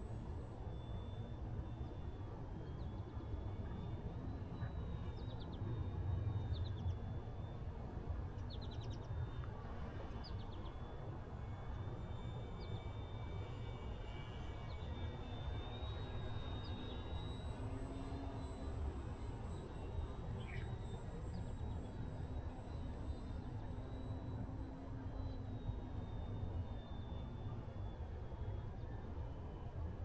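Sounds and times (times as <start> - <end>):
distant electric motor whine: 0.0 - 30.0.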